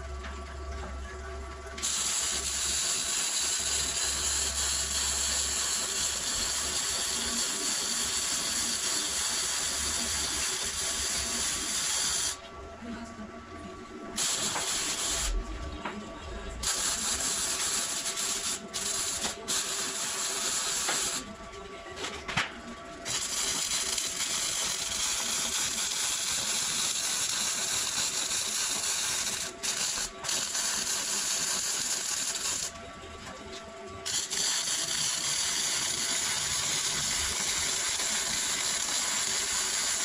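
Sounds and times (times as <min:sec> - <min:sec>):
arc welding crackling hiss: 0:01.8 - 0:12.4, 0:14.2 - 0:15.5, 0:16.6 - 0:21.3, 0:23.0 - 0:32.8, 0:34.0 - 0:40.0.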